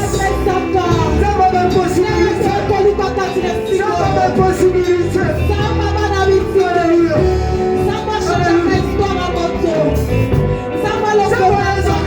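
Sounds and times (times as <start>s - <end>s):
bass line: 0.0s - 12.0s.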